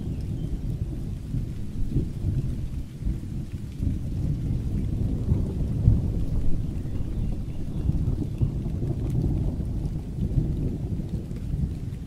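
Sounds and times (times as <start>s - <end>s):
rain hiss: 0.0s - 12.0s
rolling thunder: 0.0s - 12.0s.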